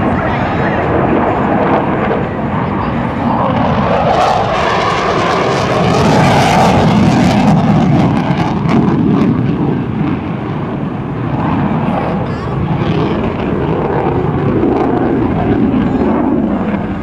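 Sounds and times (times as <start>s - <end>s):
jet engines roaring with crackles: 0.0s - 17.0s.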